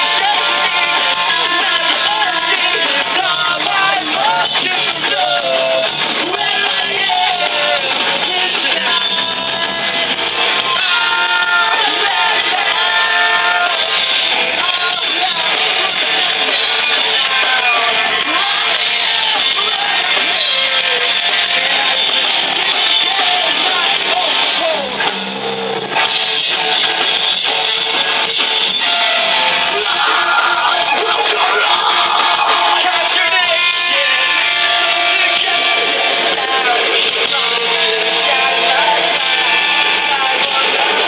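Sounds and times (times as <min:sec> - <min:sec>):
person singing over pa: 0:00.0 - 0:25.0, 0:27.8 - 0:41.0
drums: 0:00.0 - 0:41.0
electric guitars: 0:00.0 - 0:41.0.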